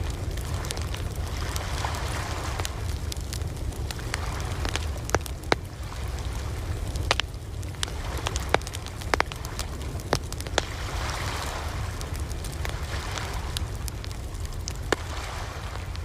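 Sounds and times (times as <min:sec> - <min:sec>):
campfire crackling and popping: 0:00.0 - 0:16.0
ocean surf rumble: 0:00.0 - 0:16.0
wave washing: 0:00.0 - 0:16.0.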